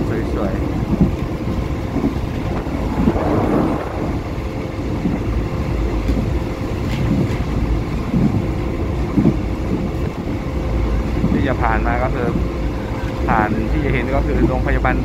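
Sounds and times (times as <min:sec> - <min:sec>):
train carriage rumble and rattle: 0:00.0 - 0:15.0.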